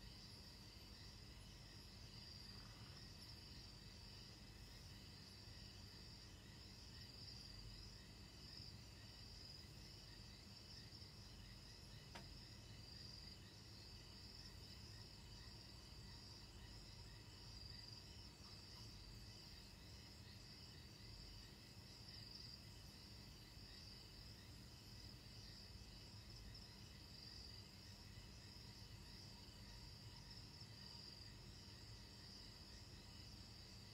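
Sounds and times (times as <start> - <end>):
night insects trilling: 0.0 - 33.9.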